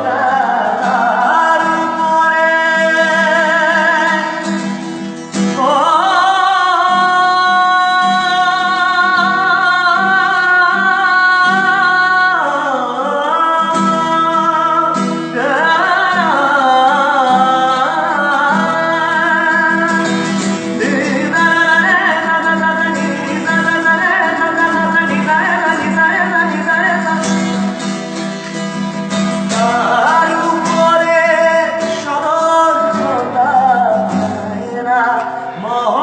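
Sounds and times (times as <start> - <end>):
folk-rock music: 0.0 - 36.0.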